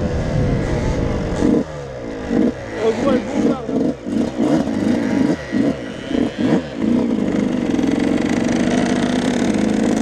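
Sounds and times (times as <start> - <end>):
motocross engine revving: 0.0 - 10.0.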